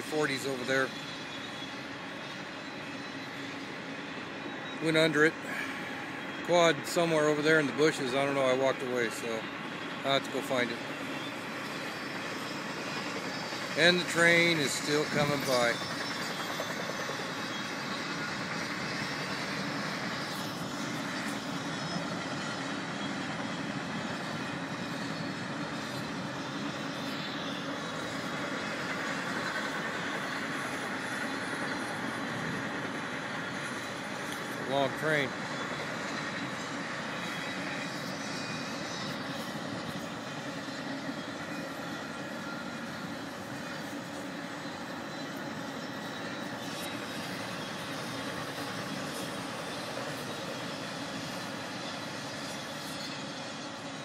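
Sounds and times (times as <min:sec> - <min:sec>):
train cars rolling by: 0:00.0 - 0:54.0.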